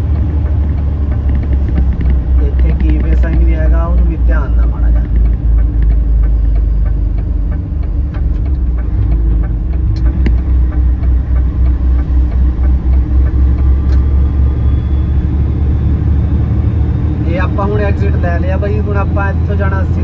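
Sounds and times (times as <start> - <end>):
diesel truck engine rumble: 0.0 - 20.0.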